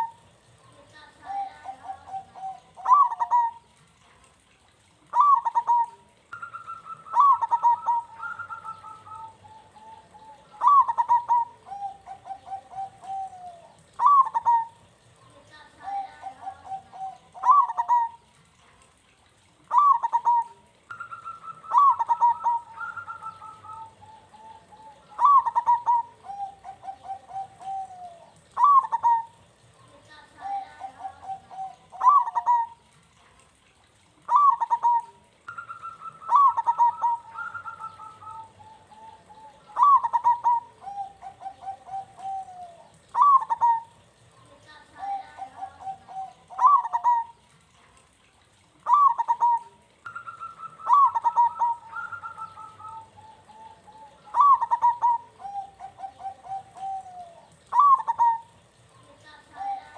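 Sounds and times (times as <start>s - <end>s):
dove cooing: 0.0s - 4.1s, 4.9s - 59.9s.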